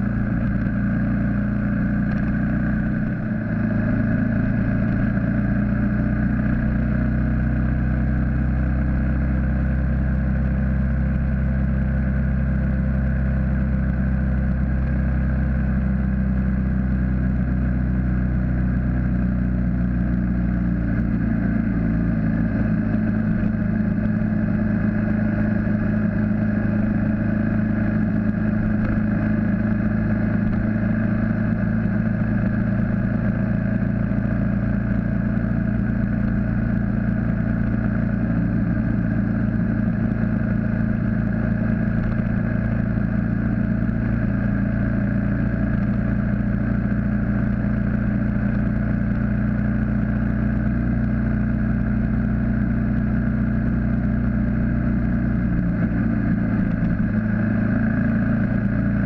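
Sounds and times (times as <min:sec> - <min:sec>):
wind and road noise: 0:00.0 - 0:12.0, 0:12.6 - 0:59.0
motorcycle engine running: 0:00.0 - 0:59.0.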